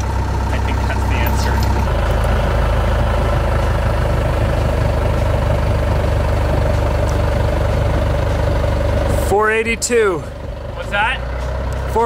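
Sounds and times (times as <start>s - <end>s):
loader engine idling: 0.0s - 12.0s
steady whine: 0.0s - 12.0s.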